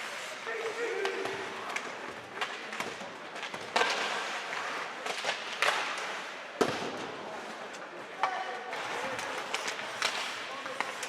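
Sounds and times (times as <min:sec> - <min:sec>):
hockey sticks and puck clacking: 0:00.0 - 0:11.0.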